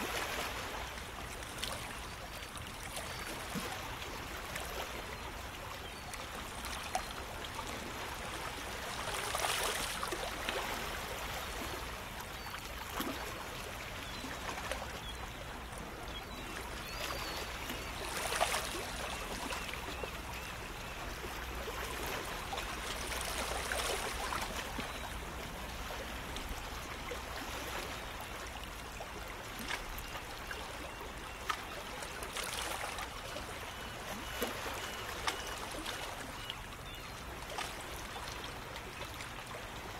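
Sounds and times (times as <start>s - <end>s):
small water splashes: 0.0s - 5.2s, 5.8s - 15.4s, 16.1s - 20.5s, 21.3s - 39.9s
water trickling and lapping: 0.0s - 39.9s.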